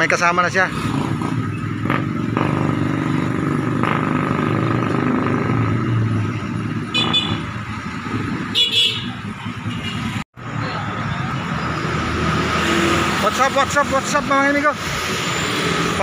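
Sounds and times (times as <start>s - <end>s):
motorcycle engines passing: 0.0s - 16.0s.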